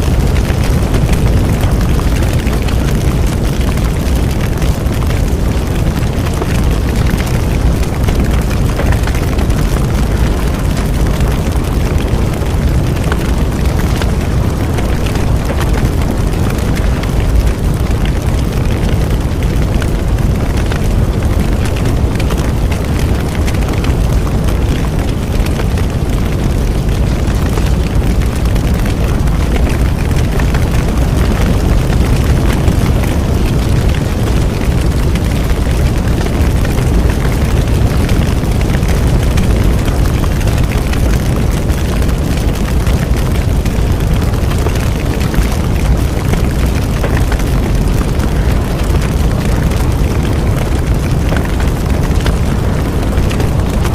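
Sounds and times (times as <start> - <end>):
bonfire flames rushing: 0.0 - 53.9
fire crackles and pops: 0.0 - 53.9.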